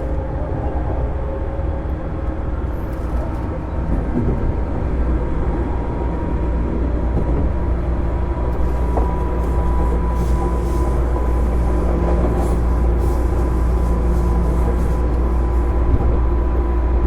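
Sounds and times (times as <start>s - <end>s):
train running gear rumbling: 0.0s - 17.0s.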